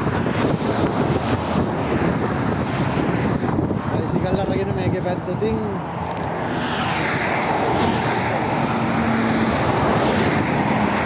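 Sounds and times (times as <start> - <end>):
engine hum: 0.0 - 11.0
highway traffic rushing: 0.0 - 11.0.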